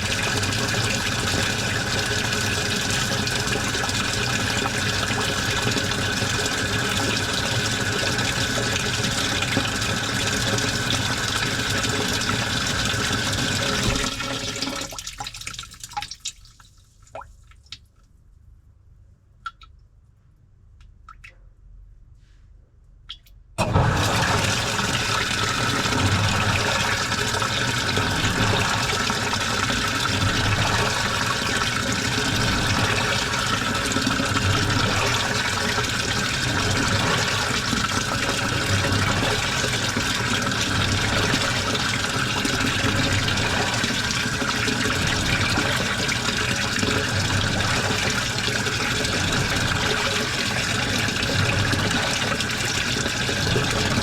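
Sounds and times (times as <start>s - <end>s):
water pouring into washing machine: 0.0s - 17.7s, 23.6s - 54.0s.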